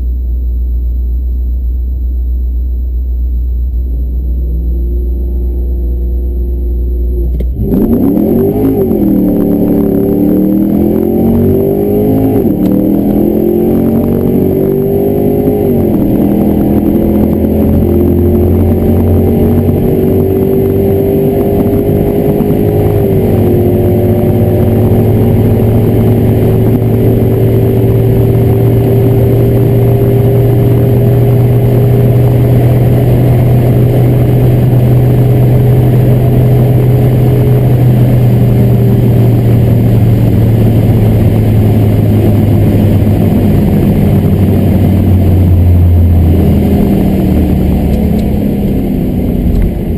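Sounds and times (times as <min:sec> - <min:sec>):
car engine at full throttle: 0:00.0 - 0:49.9.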